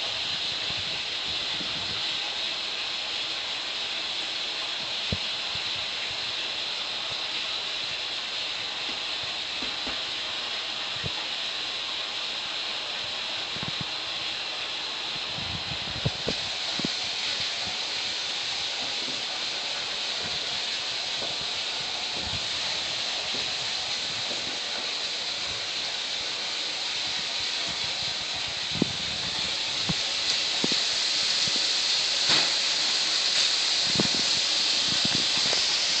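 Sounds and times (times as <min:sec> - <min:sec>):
steady high hiss: 0:00.0 - 0:36.0.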